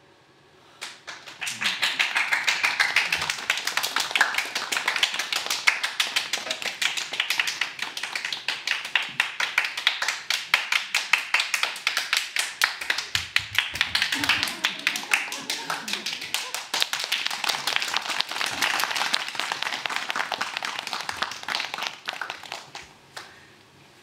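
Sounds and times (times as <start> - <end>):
rhythmic hand claps and taps: 0.8 - 23.4.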